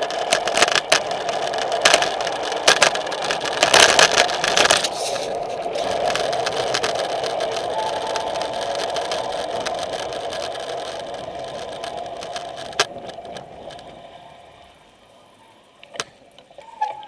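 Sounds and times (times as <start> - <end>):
rushing air: 0.0 - 15.8
bicycle freewheel ratcheting: 0.0 - 17.0.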